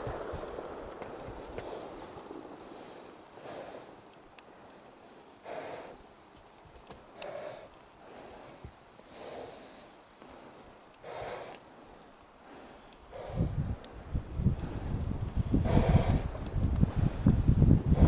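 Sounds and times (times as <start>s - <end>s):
person breathing heavily: 1.5s - 6.2s, 7.1s - 18.0s.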